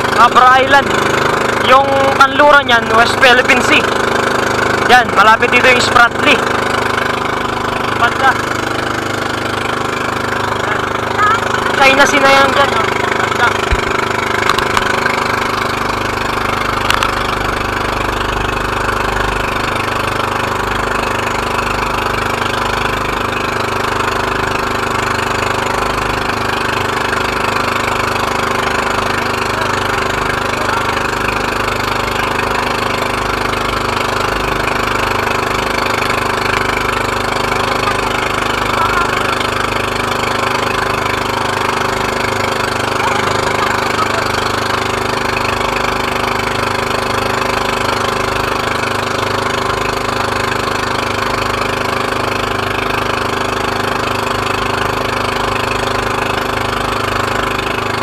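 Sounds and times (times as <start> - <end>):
boat engine running: 0.0 - 58.0
water and wind hiss: 0.0 - 58.0.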